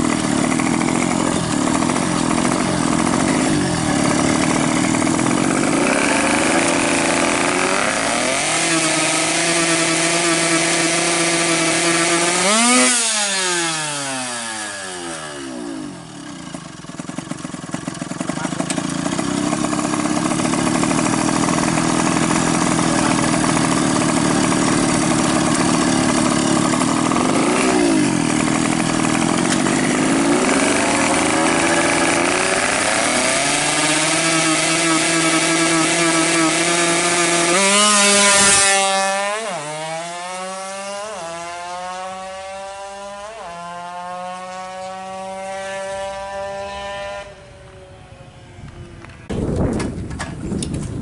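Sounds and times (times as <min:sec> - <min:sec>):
two-stroke motorcycle engine revving: 0:00.0 - 0:48.5.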